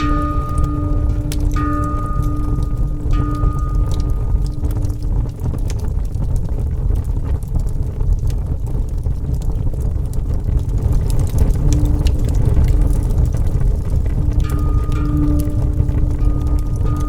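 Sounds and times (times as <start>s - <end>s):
burning wood crackling and popping: 0.0s - 17.0s
low rumble of flames: 0.0s - 17.0s.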